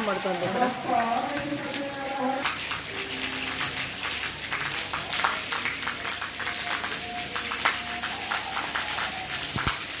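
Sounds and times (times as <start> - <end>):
sharp raindrop splashes: 0.0 - 10.0
torrential rain hissing: 0.0 - 10.0.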